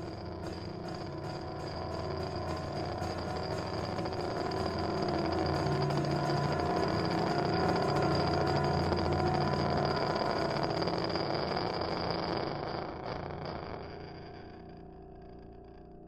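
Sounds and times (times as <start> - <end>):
amplified piano drone: 0.0 - 13.4.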